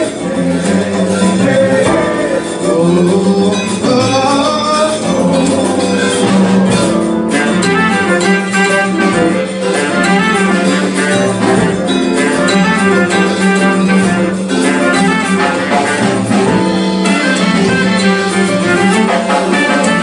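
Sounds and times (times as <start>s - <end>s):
plucked strings: 0.0s - 20.0s.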